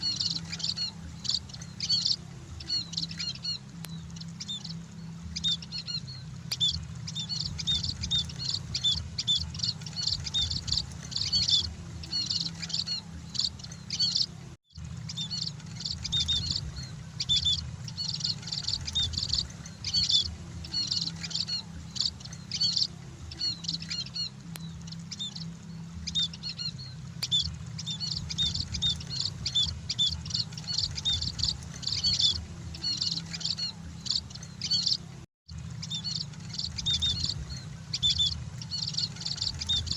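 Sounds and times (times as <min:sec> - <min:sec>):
birds twittering: 0:00.0 - 0:39.9
low hum: 0:00.0 - 0:39.9.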